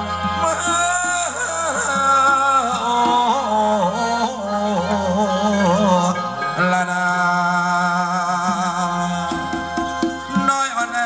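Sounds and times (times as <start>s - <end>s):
live band playing: 0.0s - 11.0s
wavering lead melody: 0.0s - 11.0s.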